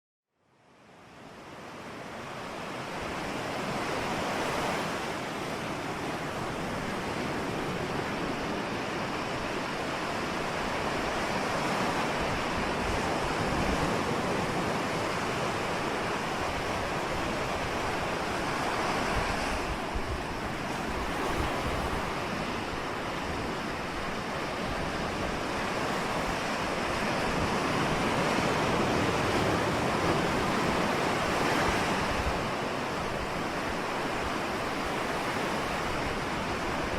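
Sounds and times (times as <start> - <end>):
ocean waves breaking: 0.9 - 36.9.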